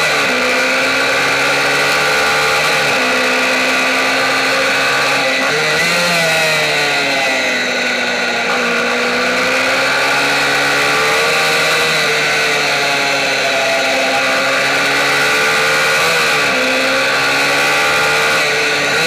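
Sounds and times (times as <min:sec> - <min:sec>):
motorbike engine at high revs: 0:00.0 - 0:19.0.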